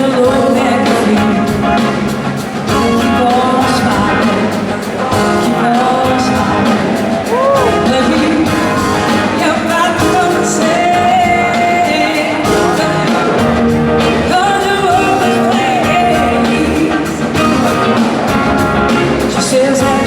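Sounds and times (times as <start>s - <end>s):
rock band playing: 0.0s - 20.0s
sliding lead guitar melody: 0.0s - 20.0s.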